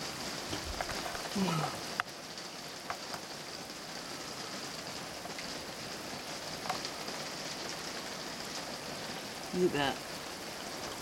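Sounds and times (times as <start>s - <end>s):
floodwater flowing and splashing: 0.0s - 11.0s.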